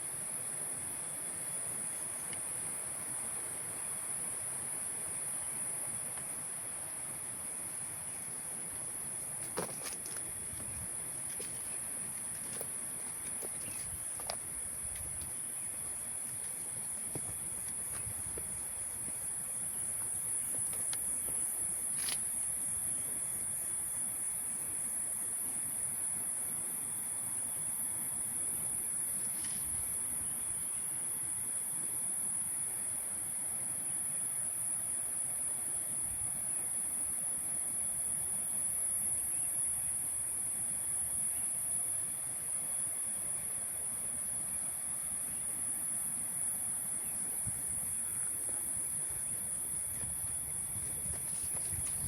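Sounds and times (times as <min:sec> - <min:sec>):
insects chorus: 0:00.0 - 0:52.0.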